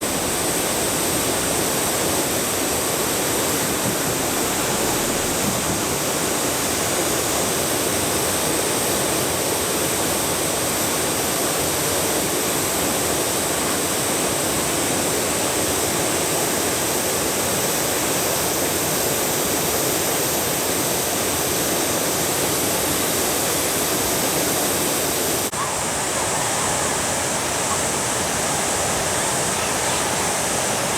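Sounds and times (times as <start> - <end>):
waterfall water rushing: 0.0 - 30.9.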